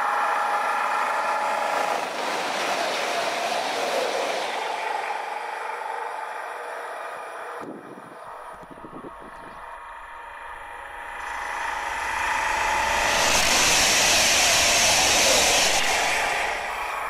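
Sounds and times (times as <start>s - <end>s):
high-speed train passing: 0.0s - 17.0s.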